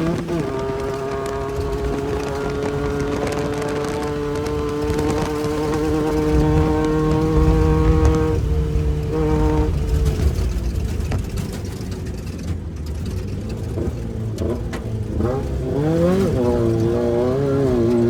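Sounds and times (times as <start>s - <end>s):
race vehicle engine revving: 0.0s - 18.0s.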